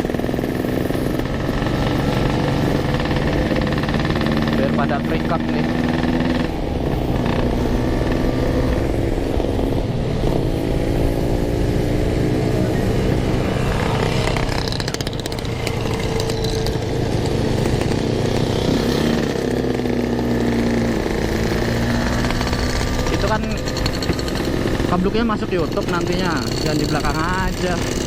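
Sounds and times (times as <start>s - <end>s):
two-stroke motorcycle engine running: 0.0s - 28.0s.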